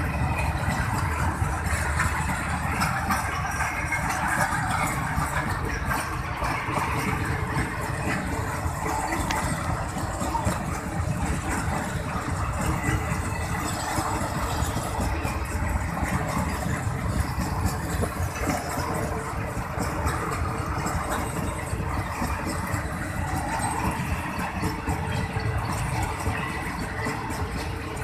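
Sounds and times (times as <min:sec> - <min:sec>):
freight wagons rumbling on rails: 0:00.0 - 0:28.0.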